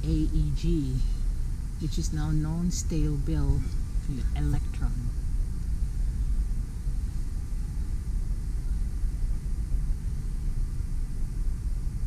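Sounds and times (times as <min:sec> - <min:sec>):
low fluttering rumble: 0:00.0 - 0:12.0.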